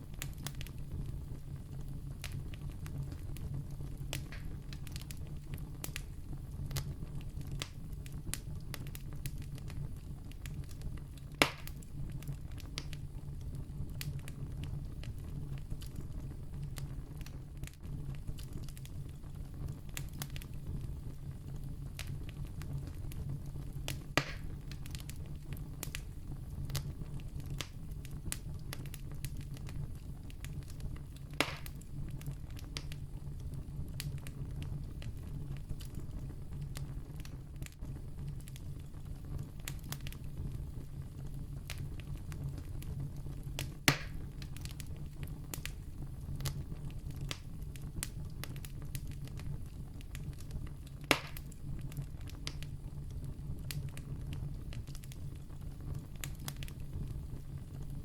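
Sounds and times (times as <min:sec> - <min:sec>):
campfire crackling: 0:00.0 - 0:58.0
loud fire pops: 0:00.0 - 0:58.0.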